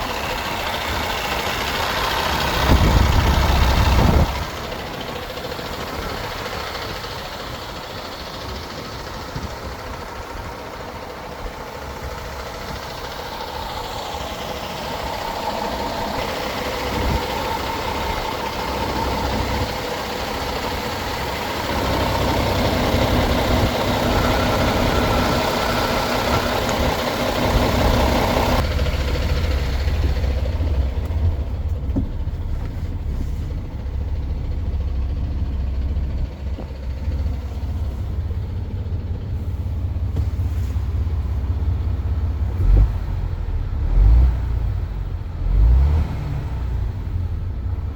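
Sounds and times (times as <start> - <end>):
truck diesel engine idling: 0.0 - 47.9.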